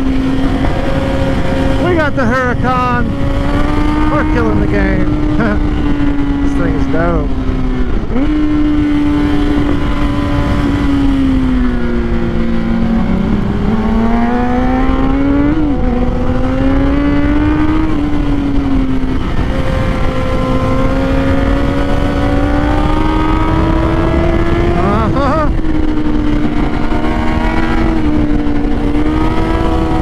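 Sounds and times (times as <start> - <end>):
motorcycle engine at high revs: 0.0 - 30.0
wind rush: 0.0 - 30.0.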